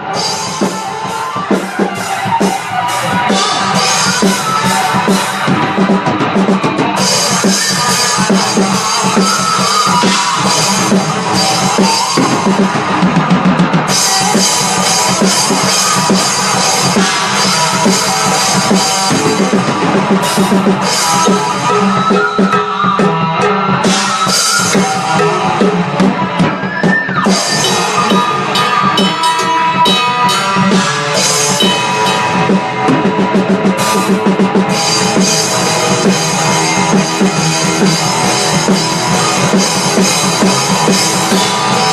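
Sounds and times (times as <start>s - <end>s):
rock music with drum kit: 0.0s - 41.9s.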